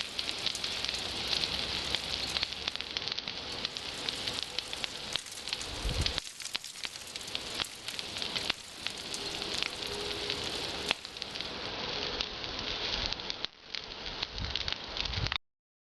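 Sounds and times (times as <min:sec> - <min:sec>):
bonfire crackling and popping: 0:00.0 - 0:15.4.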